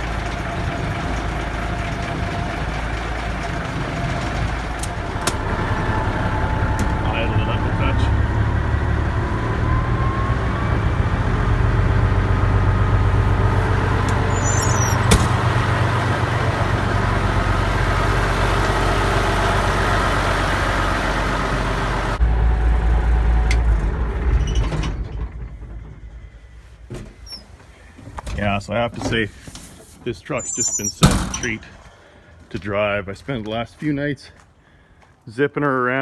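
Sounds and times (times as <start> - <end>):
faint engine whine: 0.0 - 32.6
truck diesel engine rumbling: 0.0 - 35.1.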